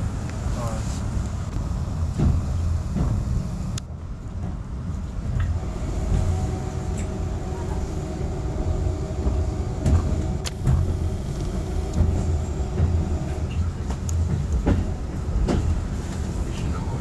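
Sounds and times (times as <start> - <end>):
train running low rumble: 0.0 - 17.0
wheels clicking on track: 1.2 - 17.0.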